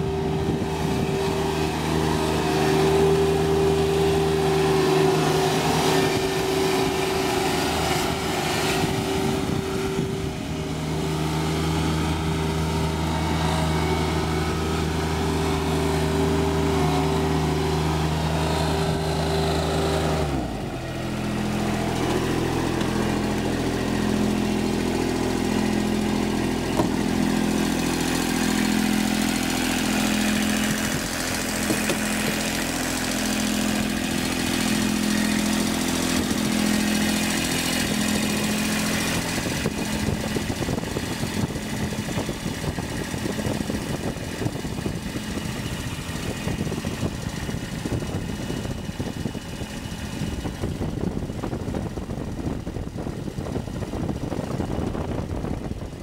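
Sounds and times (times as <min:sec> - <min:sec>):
diesel mower engine running: 0:00.0 - 0:56.0.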